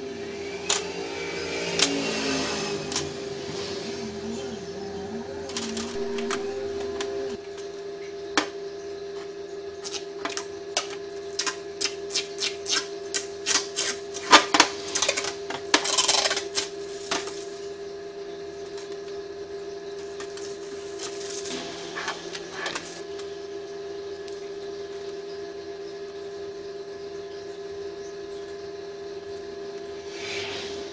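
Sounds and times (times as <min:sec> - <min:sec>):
steady hum: 0:00.0 - 0:30.9.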